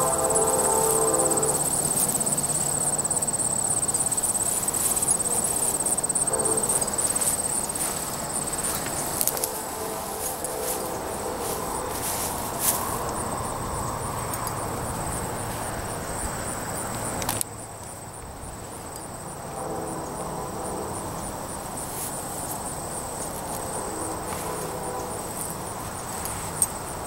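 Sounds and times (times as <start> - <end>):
insects chirping: 0.0 - 27.0
outdoor noise: 0.0 - 27.0.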